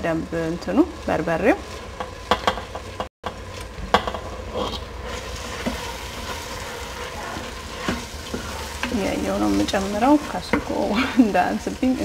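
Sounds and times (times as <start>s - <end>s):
lentils sizzling in pot: 0.0s - 12.0s
wooden spoon stirring: 0.9s - 12.0s.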